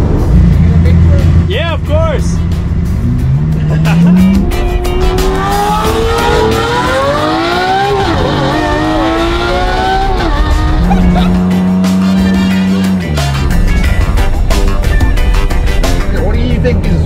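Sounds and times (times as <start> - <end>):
car engine accelerating hard: 0.0 - 13.8.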